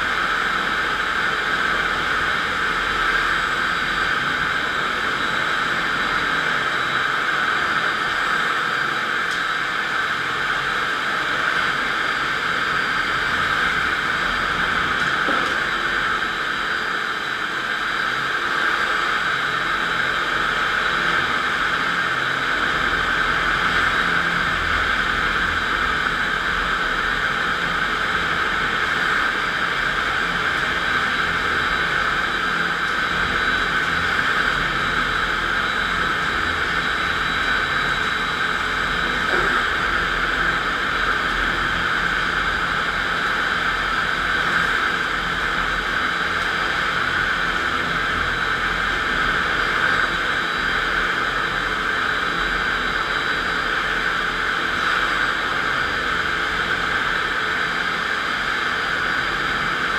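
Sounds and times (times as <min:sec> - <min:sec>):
concrete floor grinder running: 0:00.0 - 0:59.9.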